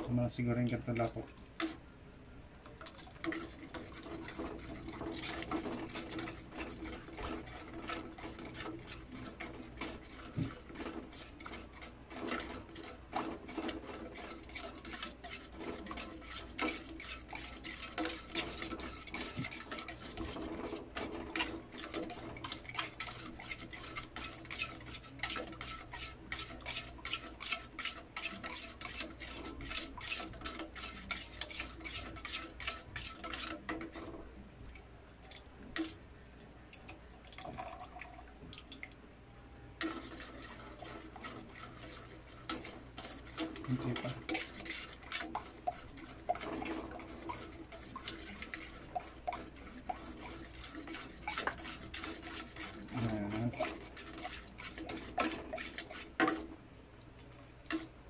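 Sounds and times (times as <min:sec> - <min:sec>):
spatula scraping a metal pan: 0:03.2 - 0:34.3, 0:39.8 - 0:56.6, 0:57.7 - 0:57.9.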